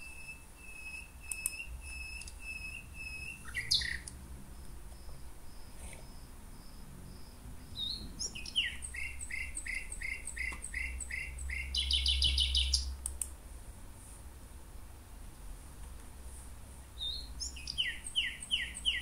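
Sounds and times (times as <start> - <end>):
songbird singing: 0.0 - 13.2, 16.9 - 19.0
steady low hum: 0.0 - 19.0.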